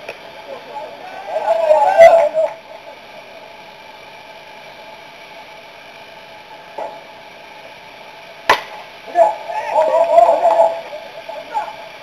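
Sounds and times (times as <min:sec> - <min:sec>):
faint steady tones: 0:00.0 - 0:12.0
steady low hiss: 0:00.0 - 0:12.0.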